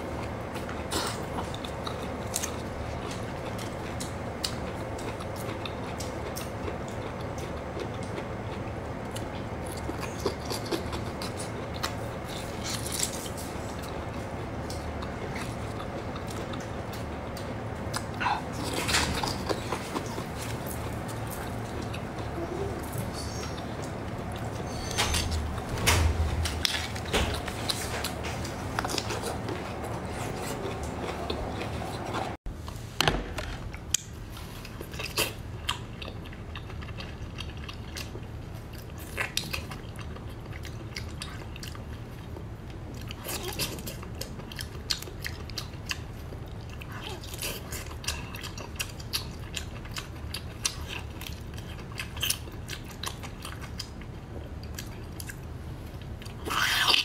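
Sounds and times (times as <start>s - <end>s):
biting and chewing: 0.0s - 32.4s, 33.6s - 57.0s.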